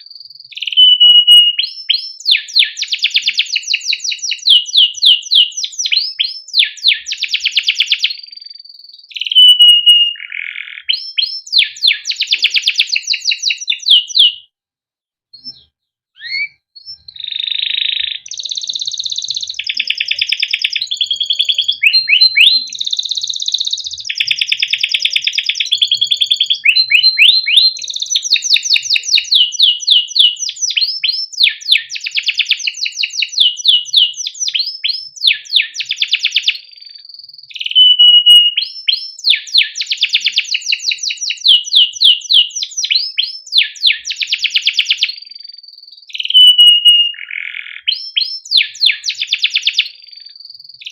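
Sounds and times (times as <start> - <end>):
canary singing chirps and trills: 0.0 - 14.5, 15.3 - 50.9.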